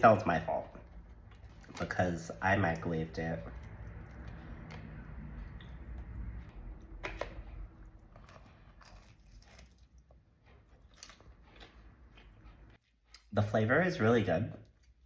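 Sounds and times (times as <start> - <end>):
chewing crunchy food: 0.0 - 13.3.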